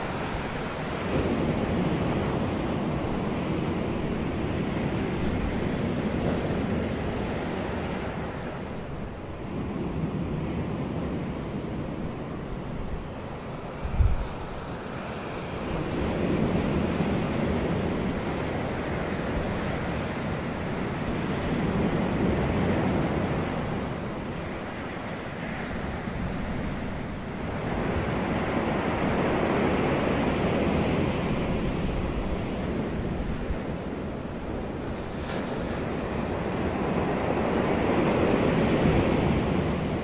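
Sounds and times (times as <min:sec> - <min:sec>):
ocean surf washing up beach: 0:00.0 - 0:40.0.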